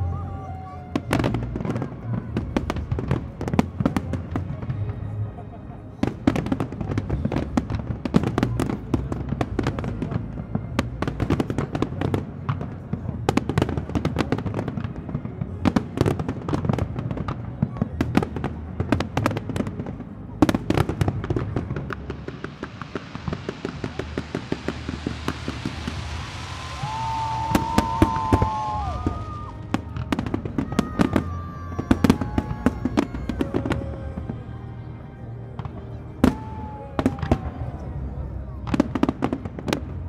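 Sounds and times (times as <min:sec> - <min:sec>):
fireworks bursting and crackling: 0:00.0 - 0:34.6, 0:35.5 - 0:40.0.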